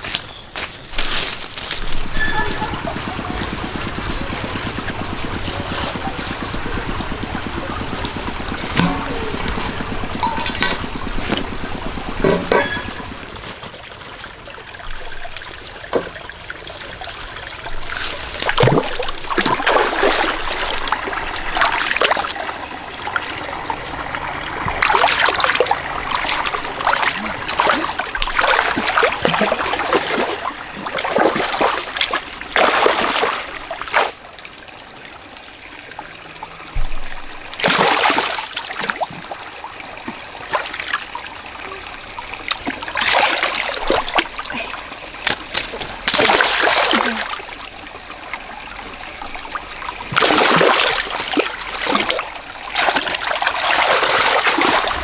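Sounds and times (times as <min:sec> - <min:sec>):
muddy water splashing: 0:00.8 - 0:34.3, 0:37.0 - 0:55.0
water trickling: 0:01.6 - 0:55.0.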